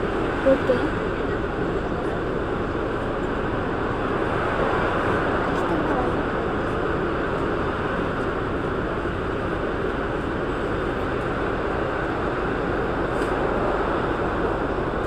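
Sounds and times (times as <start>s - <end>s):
train interior rumble and hiss: 0.0s - 15.0s.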